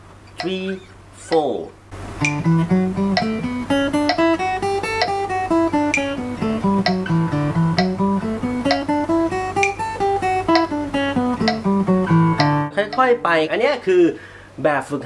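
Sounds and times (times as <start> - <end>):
acoustic guitar scale: 0.0 - 15.0
metronome clicking: 0.3 - 1.5, 2.2 - 13.2.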